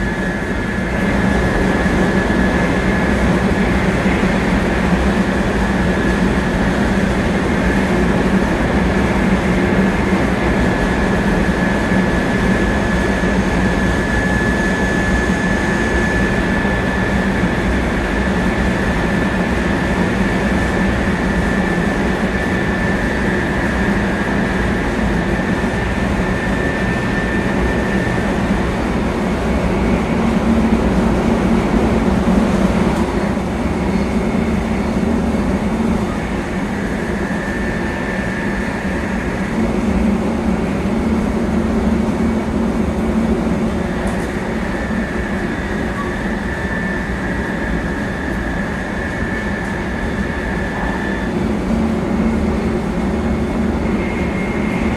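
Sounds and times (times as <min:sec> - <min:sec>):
high whine: 0:00.0 - 0:54.9
train rumble and rush: 0:00.0 - 0:54.9.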